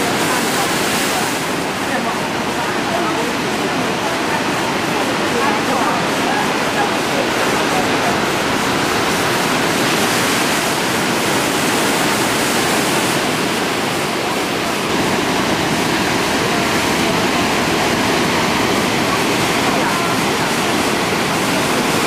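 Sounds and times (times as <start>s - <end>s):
ocean surf breaking on rocks: 0.0s - 22.0s.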